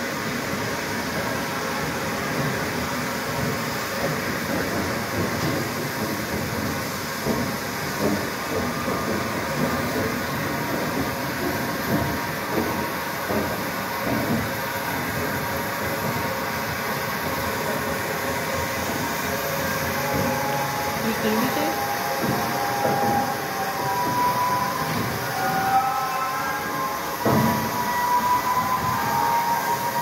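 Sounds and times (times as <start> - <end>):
steam locomotive low beats: 0.0 - 30.0.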